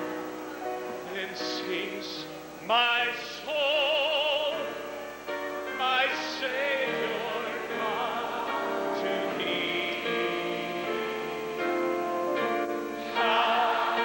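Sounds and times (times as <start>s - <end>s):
piano accompaniment: 0.0s - 14.0s
solo voice singing a hymn: 1.0s - 4.9s, 5.7s - 14.0s.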